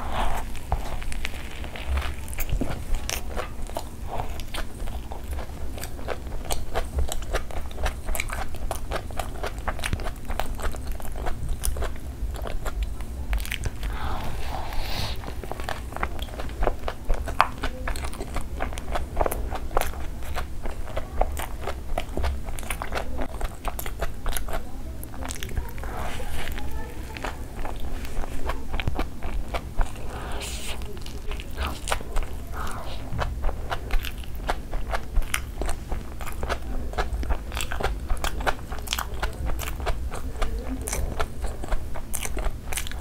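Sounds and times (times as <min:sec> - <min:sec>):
person chewing a burger: 0:00.0 - 0:43.0.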